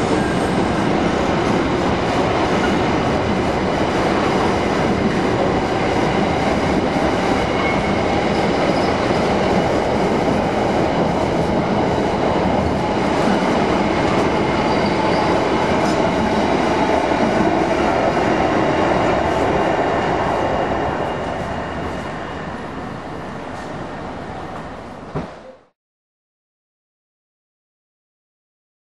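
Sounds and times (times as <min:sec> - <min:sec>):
freight train wheels rumbling on track: 0:00.0 - 0:25.6.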